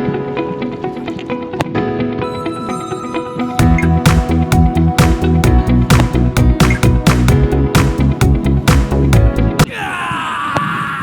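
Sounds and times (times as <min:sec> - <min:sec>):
plucked guitar music: 0:00.0 - 0:09.6.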